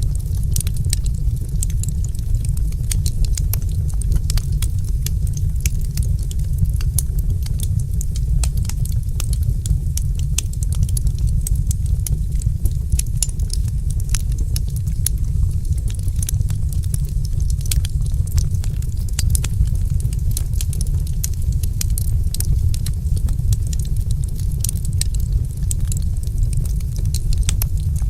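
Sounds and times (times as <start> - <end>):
low roar of flames: 0.0 - 28.0
wood fire crackling and popping: 0.0 - 28.0.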